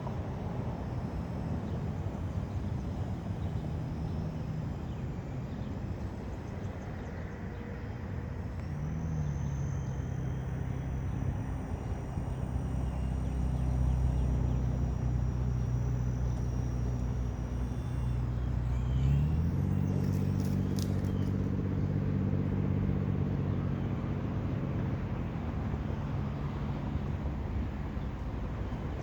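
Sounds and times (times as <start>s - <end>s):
high motor whine: 0.0s - 29.0s
toy helicopter rotor hum: 0.0s - 29.0s.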